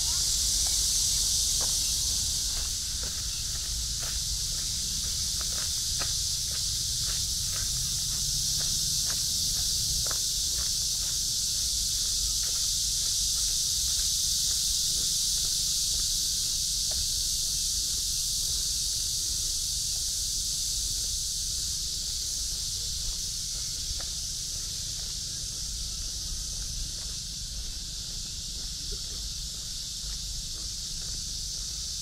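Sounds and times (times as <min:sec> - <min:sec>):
faint footsteps: 0:00.0 - 0:20.1, 0:20.9 - 0:32.0
insect chorus: 0:00.0 - 0:32.0.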